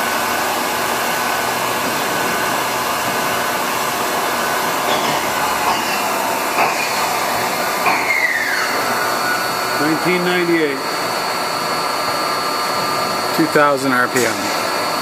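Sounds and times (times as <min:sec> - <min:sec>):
machine spindle running: 0:00.0 - 0:15.0.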